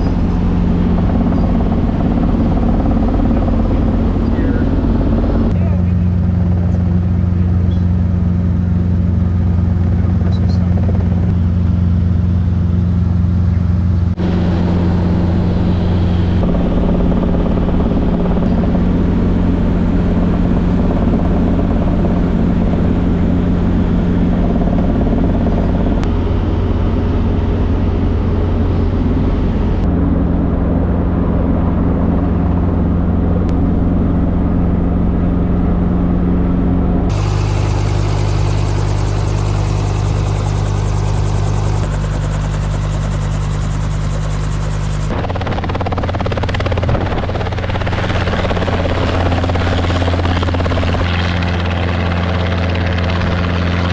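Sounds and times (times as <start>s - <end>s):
helicopter drone: 0.0s - 53.9s.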